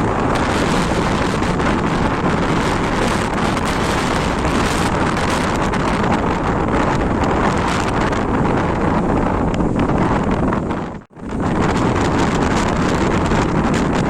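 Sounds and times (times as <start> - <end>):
jet cabin engine and airflow roar: 0.0 - 14.0.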